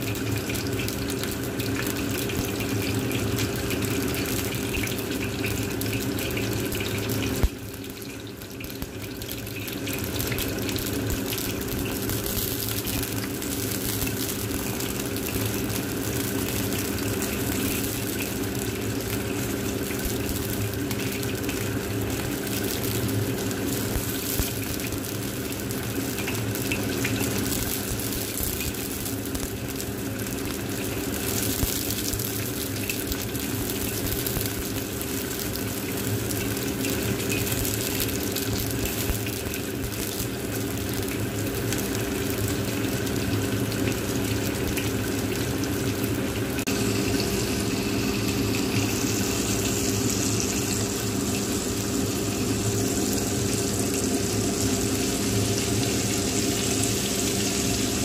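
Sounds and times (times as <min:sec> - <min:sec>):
chicken frying in hot oil: 0:00.0 - 0:58.0.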